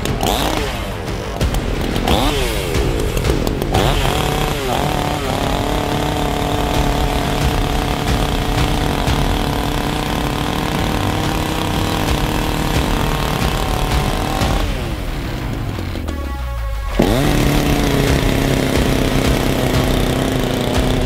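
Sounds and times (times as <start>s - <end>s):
chainsaw running: 0.0s - 16.2s, 16.9s - 21.0s.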